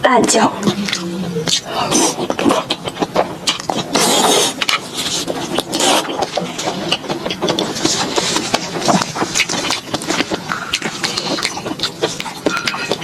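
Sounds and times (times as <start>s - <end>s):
chewing crunchy food: 0.2s - 13.0s.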